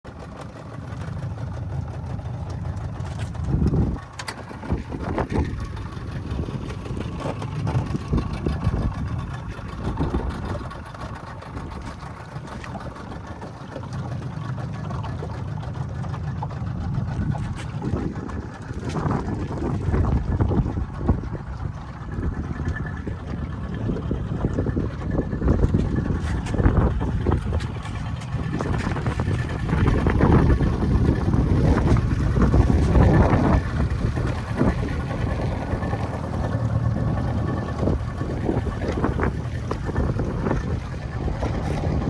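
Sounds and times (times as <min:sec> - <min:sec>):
motorboat engine rumble: 0:00.0 - 0:42.0
wind buffeting microphone: 0:00.1 - 0:42.0.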